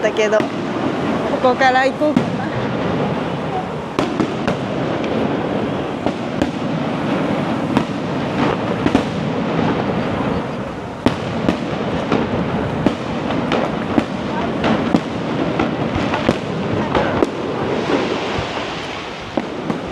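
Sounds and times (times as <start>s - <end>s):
fireworks bursting and crackling: 0.0s - 19.9s
sharp firework bangs: 0.0s - 19.9s.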